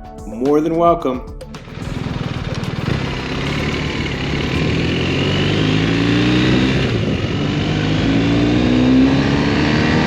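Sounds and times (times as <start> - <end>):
motorcycle engine accelerating: 1.6 - 10.0.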